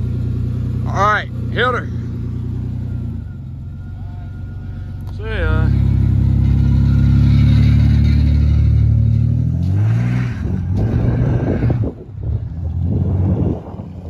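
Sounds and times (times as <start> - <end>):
road noise: 0.0 - 14.0
truck engine revving: 0.0 - 14.0.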